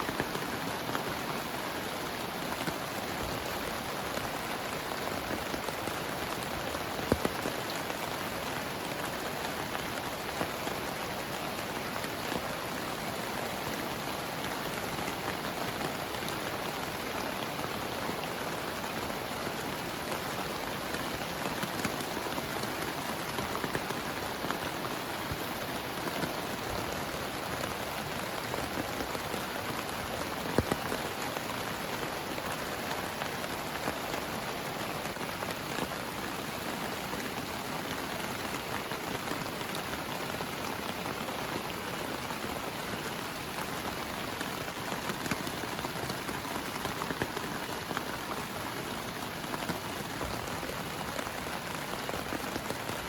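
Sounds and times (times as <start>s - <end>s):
heavy rain on a tent: 0.0s - 53.0s.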